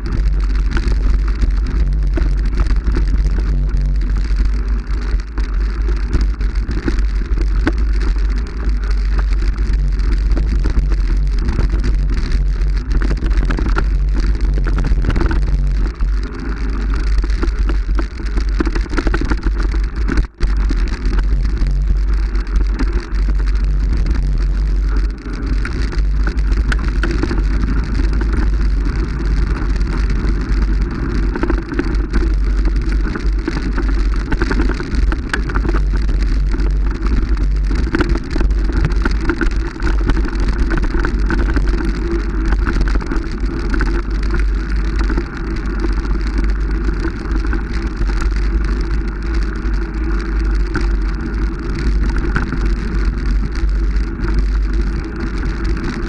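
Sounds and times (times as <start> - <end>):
vehicle running with low rumble: 0.0 - 56.0.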